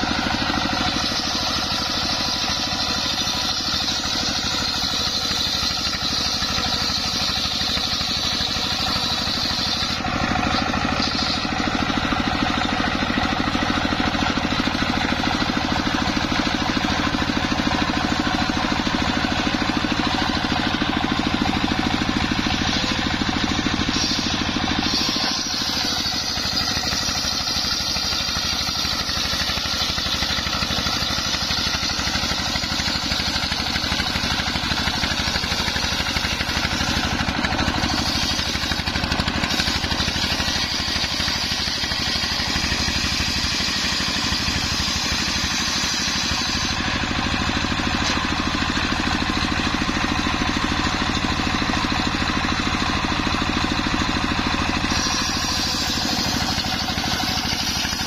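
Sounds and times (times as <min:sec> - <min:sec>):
circular saw cutting wood: 0:00.0 - 0:58.0
engine drone: 0:00.0 - 0:58.0.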